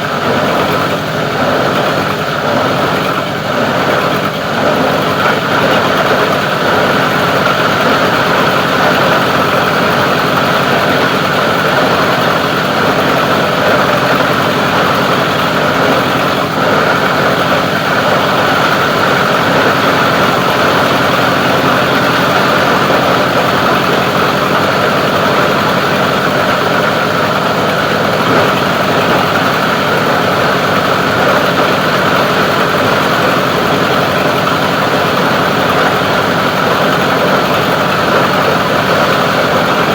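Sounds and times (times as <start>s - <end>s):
grinding machine drone: 0.0s - 39.9s.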